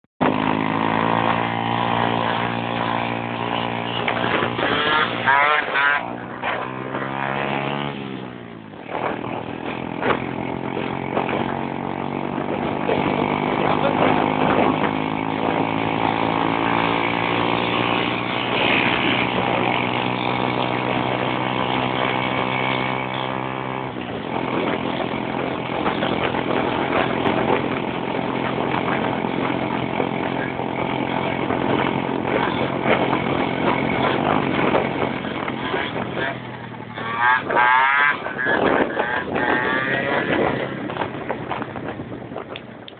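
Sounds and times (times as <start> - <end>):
motorcycle engine running and revving: 0.2 - 42.9.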